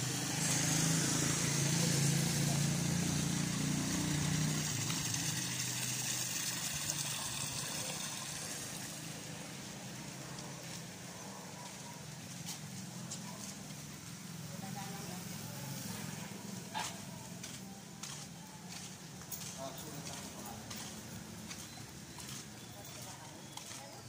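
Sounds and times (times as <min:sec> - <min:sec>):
street noise: 0:00.0 - 0:24.0
vehicle engine hum: 0:00.0 - 0:24.0.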